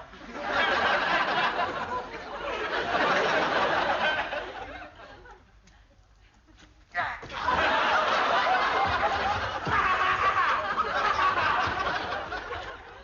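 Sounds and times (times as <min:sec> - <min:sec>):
audience laughing: 0:00.0 - 0:05.5, 0:07.3 - 0:13.0.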